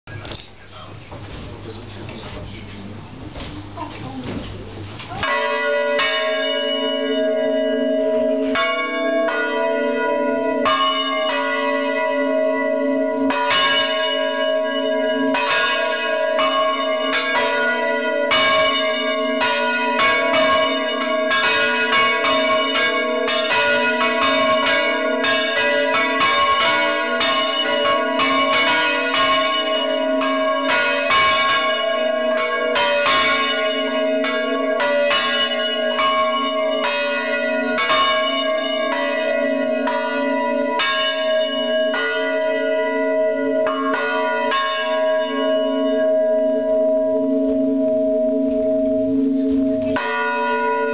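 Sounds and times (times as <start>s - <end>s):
church bells ringing: 5.2s - 50.9s.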